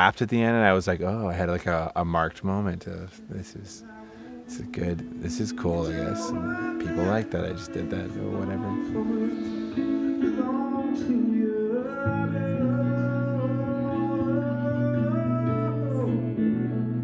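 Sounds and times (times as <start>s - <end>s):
guitar: 0.0s - 17.0s
man singing: 0.4s - 17.0s.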